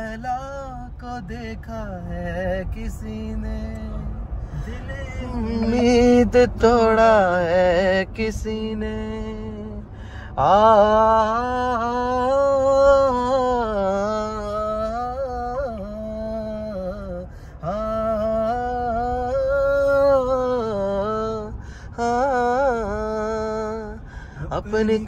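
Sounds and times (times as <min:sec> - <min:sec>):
car cabin rumble: 0:00.0 - 0:25.0
man singing wordless melody: 0:00.0 - 0:25.0.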